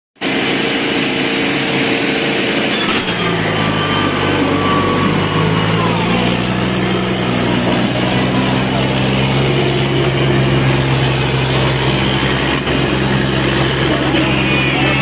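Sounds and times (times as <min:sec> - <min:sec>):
tractor diesel engine running: 0:00.2 - 0:15.0.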